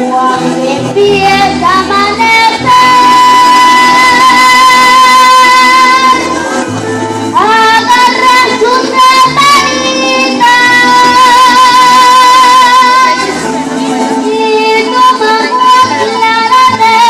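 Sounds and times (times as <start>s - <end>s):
girl singing: 0.0s - 6.4s, 7.3s - 17.0s
instrumental accompaniment: 0.0s - 17.0s.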